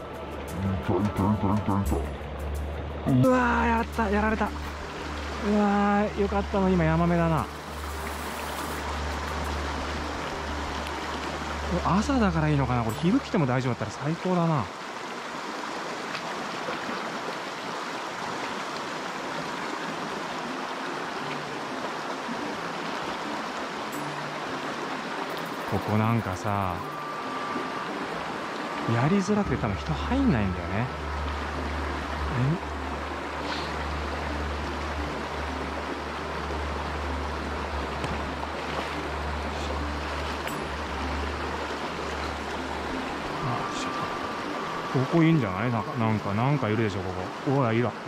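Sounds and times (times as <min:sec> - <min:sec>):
mountain stream rushing over stones: 0:00.0 - 0:48.0.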